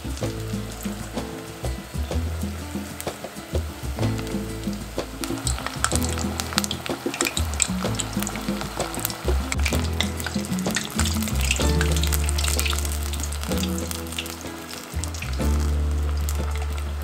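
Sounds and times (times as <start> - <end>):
battered fish frying: 0.0 - 17.0.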